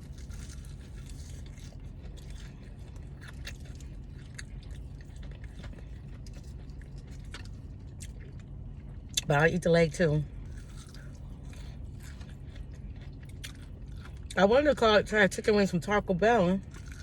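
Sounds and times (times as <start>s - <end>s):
person chewing fried chicken: 0.0s - 9.4s, 10.3s - 14.4s, 16.6s - 17.0s
steady low hum: 0.0s - 17.0s.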